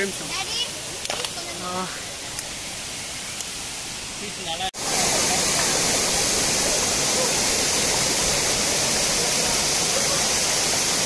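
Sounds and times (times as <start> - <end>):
stream water splashing over rocks: 0.0 - 11.0.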